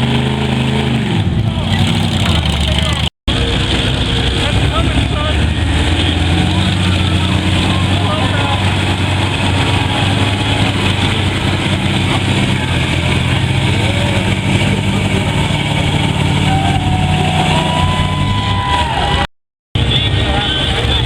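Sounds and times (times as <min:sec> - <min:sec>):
truck engine running loudly: 0:00.0 - 0:21.0.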